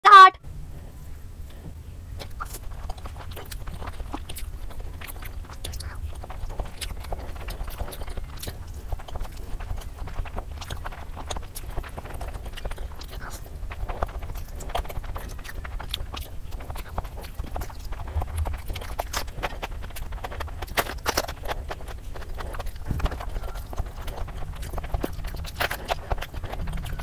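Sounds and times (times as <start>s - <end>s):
chewing noodles: 0.7s - 27.0s.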